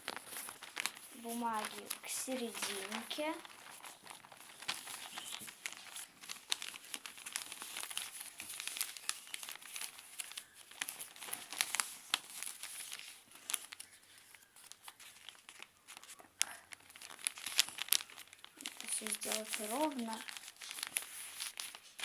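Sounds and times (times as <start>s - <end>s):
newspaper rustling: 0.0s - 22.0s
paper crackling: 0.0s - 22.0s.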